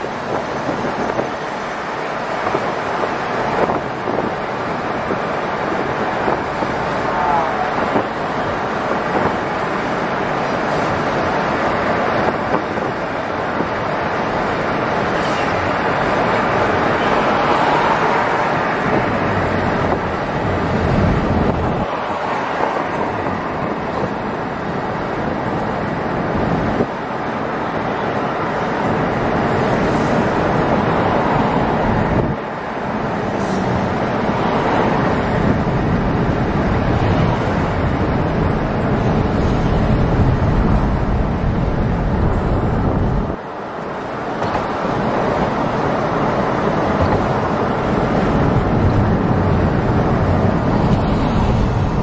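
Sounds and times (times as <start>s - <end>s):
car road and wind noise: 0.0s - 52.0s
wind buffeting microphone: 0.0s - 52.0s.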